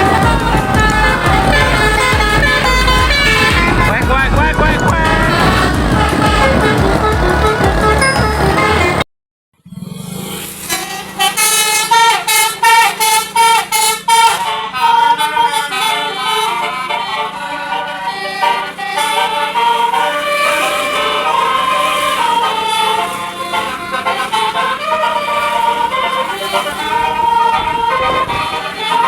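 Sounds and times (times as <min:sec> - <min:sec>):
bus air horn melody: 0:00.0 - 0:09.0, 0:10.4 - 0:29.0.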